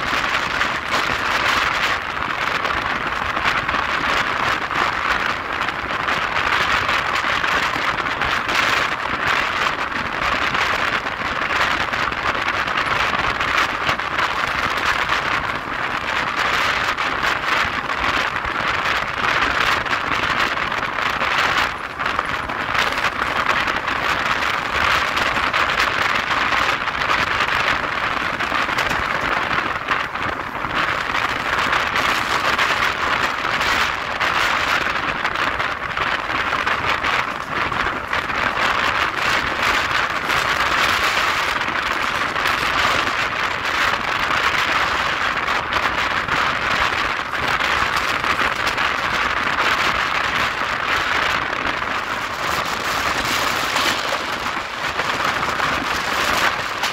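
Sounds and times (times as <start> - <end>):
rush of wind: 0.0 - 56.9
train running at speed: 0.0 - 56.9
wheels on rails: 0.0 - 56.9.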